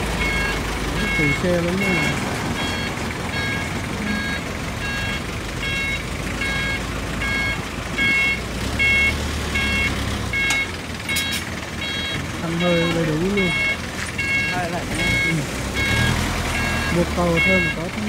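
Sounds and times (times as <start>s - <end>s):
reversing beeper: 0.0s - 18.0s
truck engine running: 0.0s - 18.0s.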